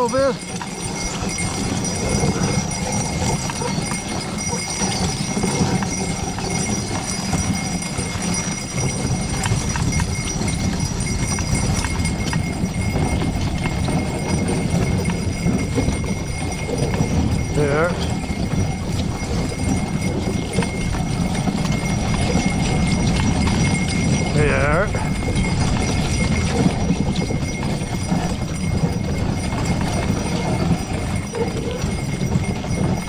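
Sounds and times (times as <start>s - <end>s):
hoofbeats on snowy road: 0.0s - 33.0s.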